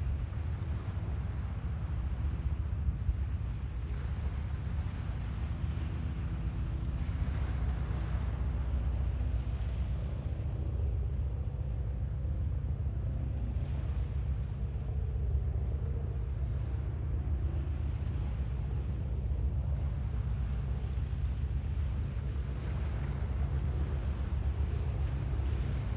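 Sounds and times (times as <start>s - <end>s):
steady low rumble: 0.0s - 25.9s.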